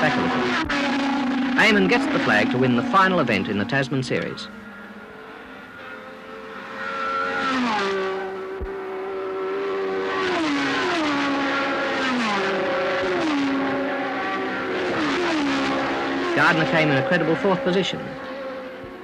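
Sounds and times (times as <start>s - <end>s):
racing cars passing at speed: 0.0s - 19.0s.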